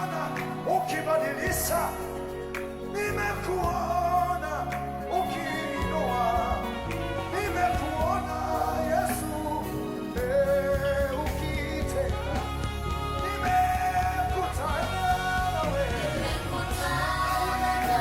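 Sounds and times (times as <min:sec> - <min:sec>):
instrumental accompaniment with bass: 0:00.0 - 0:18.0
person singing: 0:00.0 - 0:18.0.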